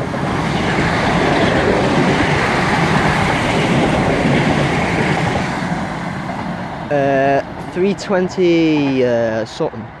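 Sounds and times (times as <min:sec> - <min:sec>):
train wheels on rails: 0:00.0 - 0:10.0.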